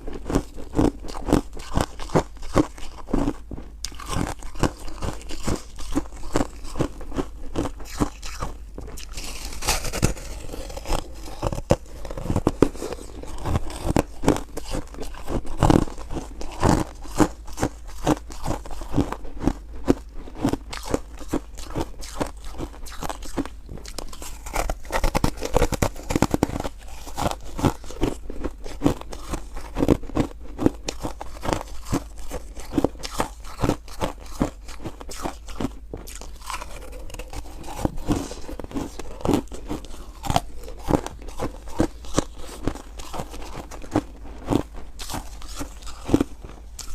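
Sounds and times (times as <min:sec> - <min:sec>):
crunchy ice chewing: 0:00.0 - 0:46.9.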